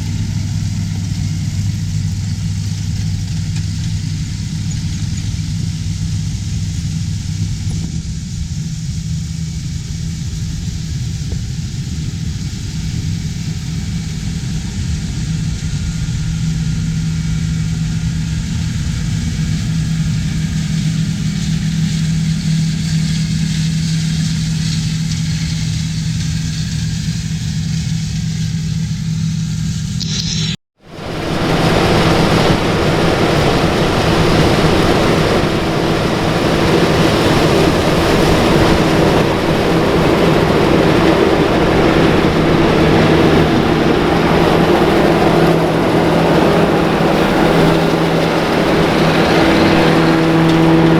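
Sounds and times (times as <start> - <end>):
diesel farm machinery running: 0.0 - 50.9.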